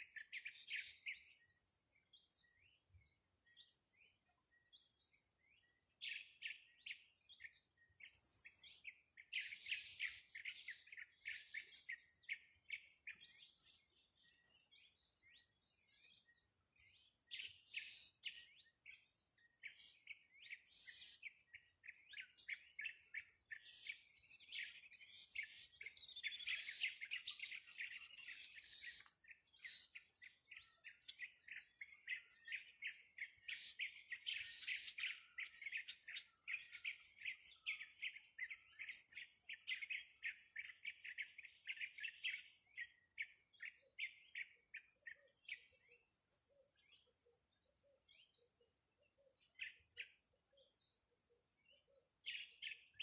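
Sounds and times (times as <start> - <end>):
songbirds chirping and trilling: 0.0 - 53.0.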